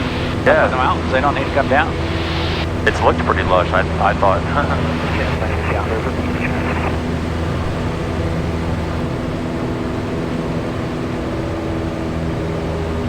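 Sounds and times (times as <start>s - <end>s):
plane engine droning in cabin: 0.0s - 13.0s.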